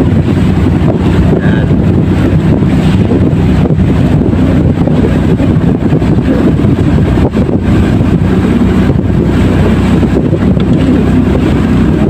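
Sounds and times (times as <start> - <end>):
boat engine droning: 0.0 - 12.0
wind buffeting microphone: 0.0 - 12.0.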